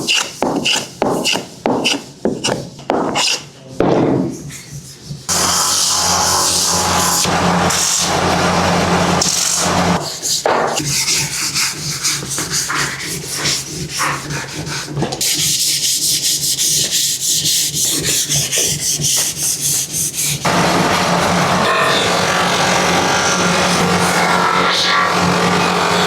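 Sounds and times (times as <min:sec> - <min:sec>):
sanding wood by hand: 0:00.0 - 0:03.4, 0:04.3 - 0:26.0.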